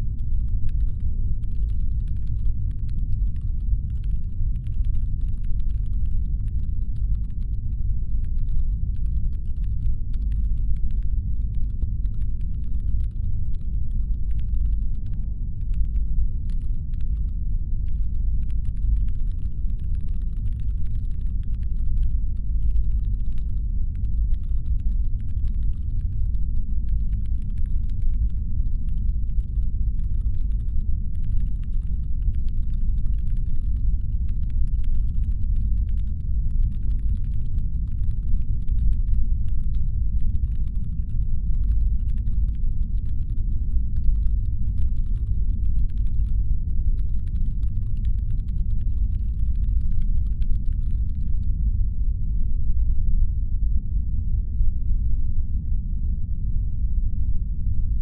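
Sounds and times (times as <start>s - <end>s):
faint irregular clicking: 0.0s - 51.5s
deep rumbling brown noise: 0.0s - 58.0s.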